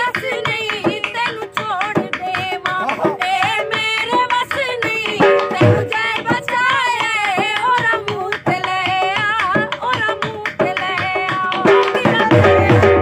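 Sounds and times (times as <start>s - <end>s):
dhol drum beat: 0.0s - 13.0s
woman singing folk song: 0.0s - 13.0s.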